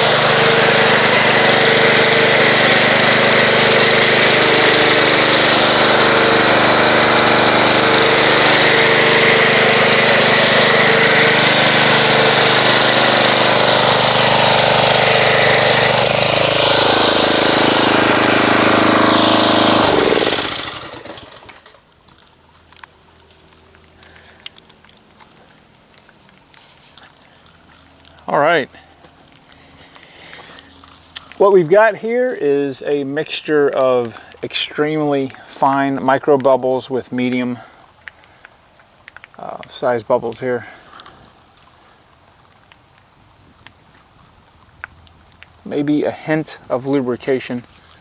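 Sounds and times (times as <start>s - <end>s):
pressure washer motor running: 0.0s - 38.4s.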